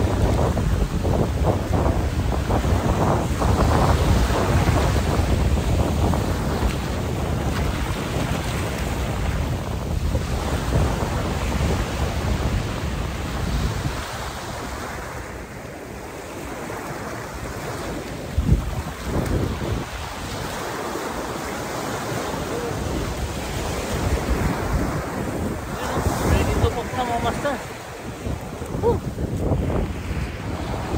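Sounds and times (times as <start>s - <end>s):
small waves washing up beach: 0.0s - 30.9s
wind buffeting microphone: 0.0s - 30.9s.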